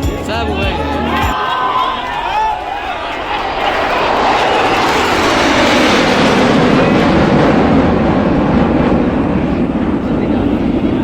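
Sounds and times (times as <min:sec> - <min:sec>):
jet aircraft roaring past: 0:00.0 - 0:11.0.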